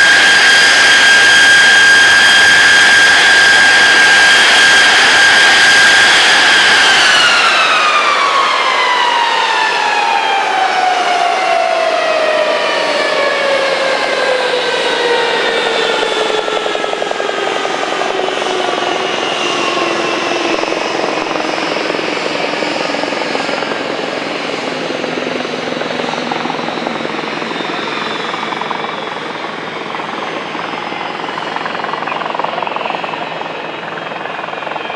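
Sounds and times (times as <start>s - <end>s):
jet engines spooling down: 0.0s - 34.9s.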